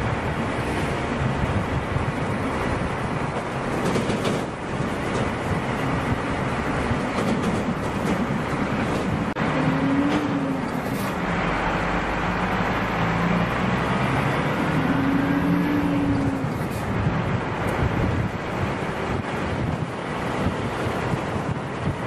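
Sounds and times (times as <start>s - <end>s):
car engine humming under load: 0.0s - 22.0s
tyre and wind noise: 0.0s - 22.0s.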